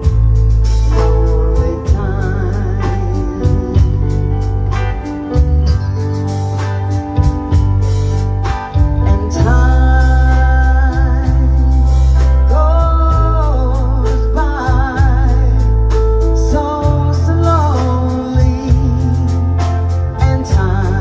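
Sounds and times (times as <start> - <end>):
band playing a song: 0.0 - 21.0.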